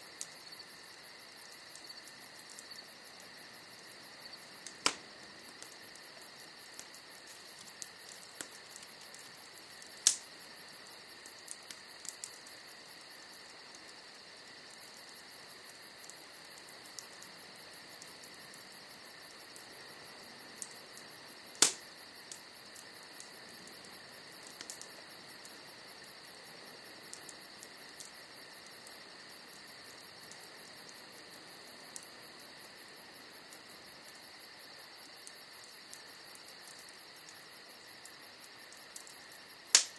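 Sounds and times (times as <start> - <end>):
bonfire crackling: 0.0 - 39.9.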